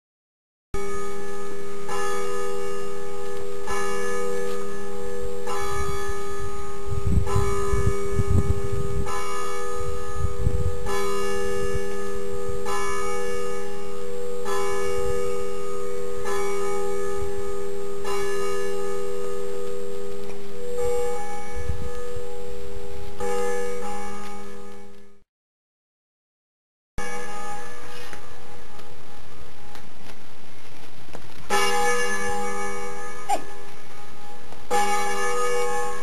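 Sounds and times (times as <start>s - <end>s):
bells tolling: 0.8s - 25.2s, 27.0s - 29.2s, 31.5s - 36.0s.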